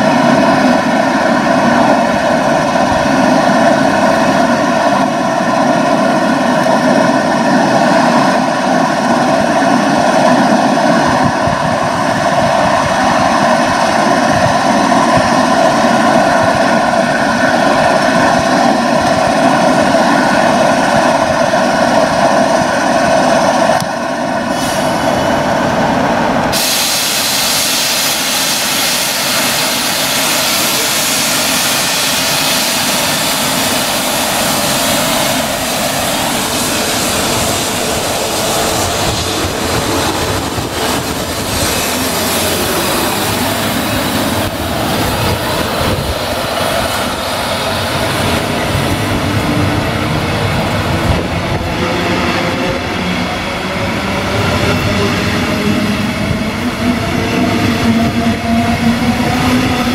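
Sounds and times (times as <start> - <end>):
train wheels and air rushing: 0.0 - 59.9
train whining hum: 0.0 - 59.9.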